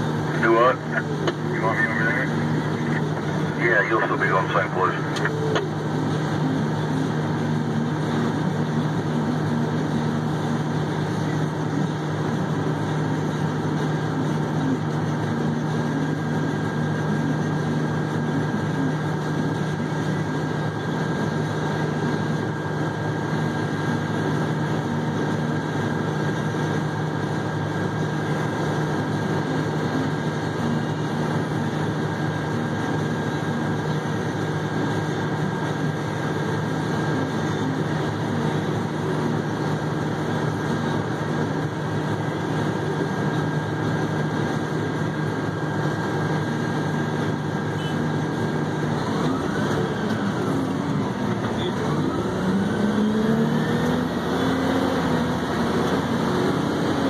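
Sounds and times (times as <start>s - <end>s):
diesel engine idling: 0.0s - 57.0s
faint steady whine: 0.0s - 57.0s.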